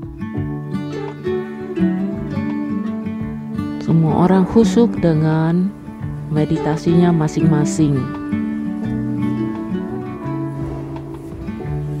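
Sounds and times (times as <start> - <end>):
plucked string instrument music: 0.0 - 12.0.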